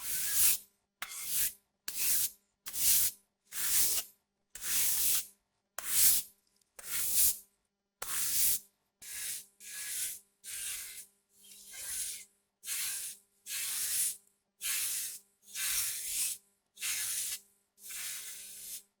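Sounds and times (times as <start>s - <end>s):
broom sweeping a floor: 0.0s - 6.2s, 6.8s - 7.4s, 8.0s - 19.0s.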